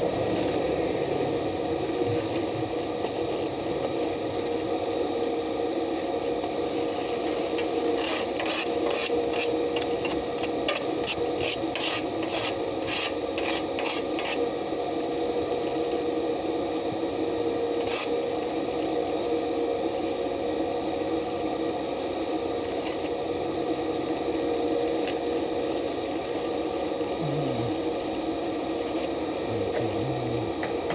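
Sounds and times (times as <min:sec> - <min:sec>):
steady hum and hiss: 0:00.0 - 0:30.9.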